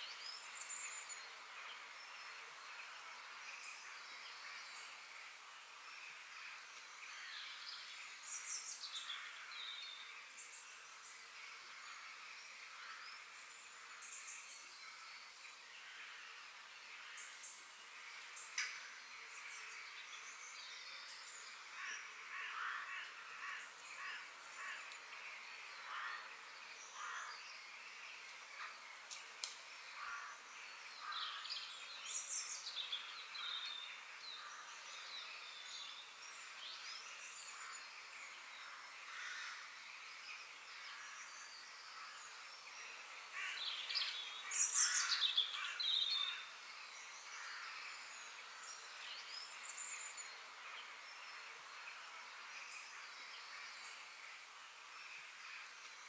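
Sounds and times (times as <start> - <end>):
background hiss: 0.0 - 56.0
birds calling and chirping: 6.0 - 56.0.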